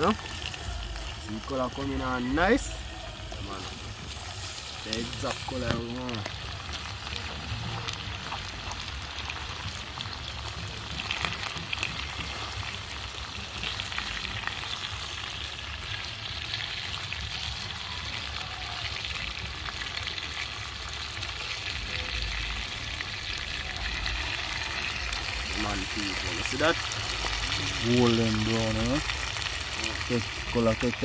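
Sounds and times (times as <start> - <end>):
deep-frying oil sizzling: 0.0 - 31.0.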